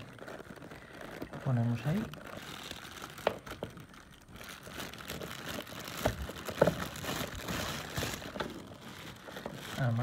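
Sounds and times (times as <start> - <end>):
plastic sheeting crinkling: 0.0 - 10.0.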